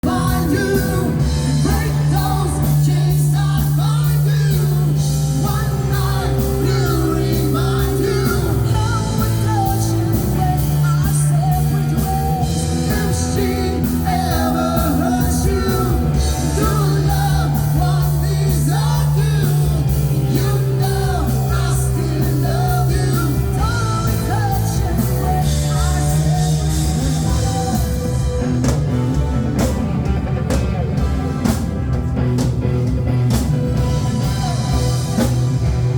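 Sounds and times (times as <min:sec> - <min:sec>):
live pop-rock band playing: 0:00.0 - 0:35.9.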